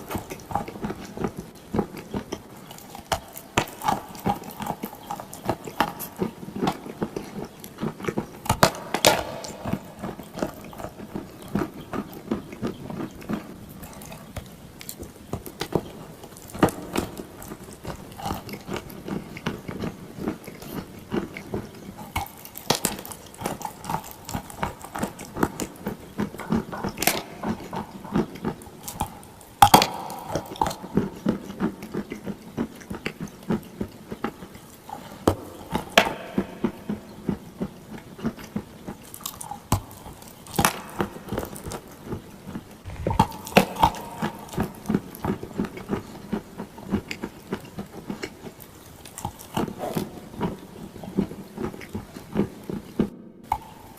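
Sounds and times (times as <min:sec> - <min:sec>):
chewing clay crunches: 0:00.0 - 0:53.9.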